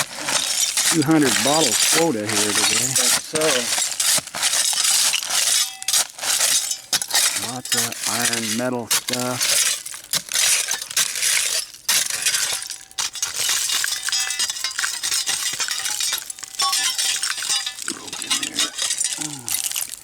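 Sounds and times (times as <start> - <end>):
glass and metal clinking: 0.3 - 20.0.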